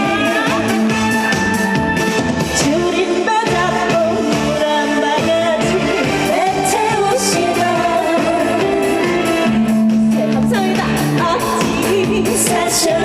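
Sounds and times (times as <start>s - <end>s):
person singing: 0.0s - 1.3s, 2.6s - 13.0s
trot song accompaniment with beat: 0.0s - 13.0s.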